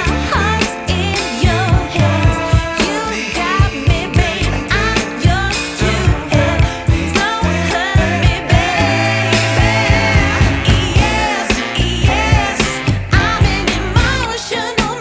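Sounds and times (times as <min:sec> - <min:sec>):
pop song: 0:00.0 - 0:15.0
woman singing: 0:00.0 - 0:15.0.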